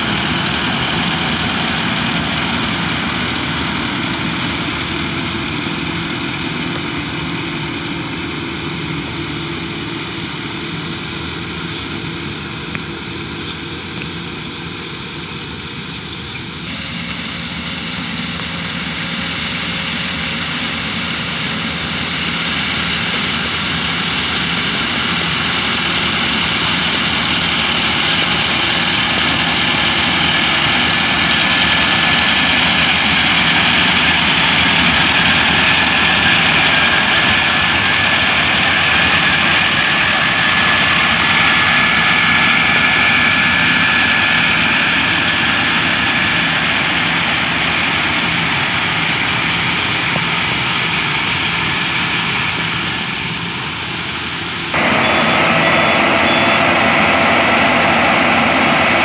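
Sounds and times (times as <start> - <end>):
combine harvester diesel engine drone: 0.0 - 59.0
high machinery whine: 0.0 - 59.0.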